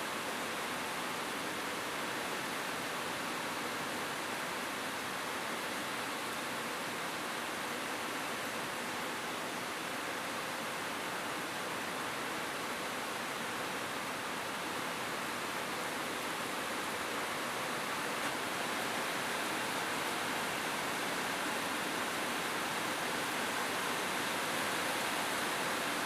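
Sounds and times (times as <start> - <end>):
rain on a roof: 0.0 - 26.0.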